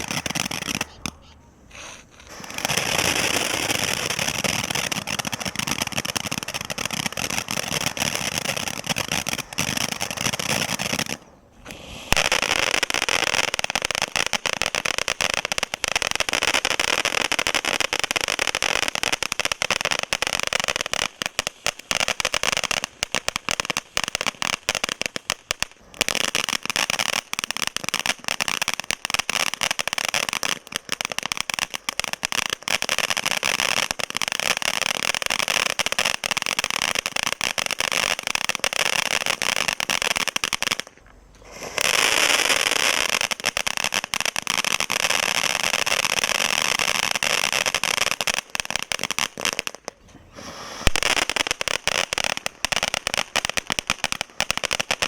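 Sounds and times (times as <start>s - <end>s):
fireworks crackling and hissing: 0.0s - 55.0s.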